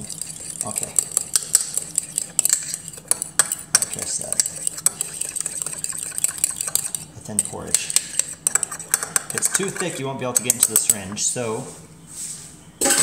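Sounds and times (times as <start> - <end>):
fork clicking against ceramic bowl: 0.0 - 11.2.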